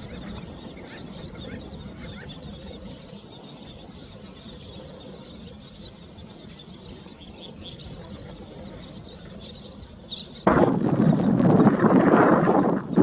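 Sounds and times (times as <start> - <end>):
birds chirping: 0.0 - 13.0
wind rumble: 0.0 - 13.0.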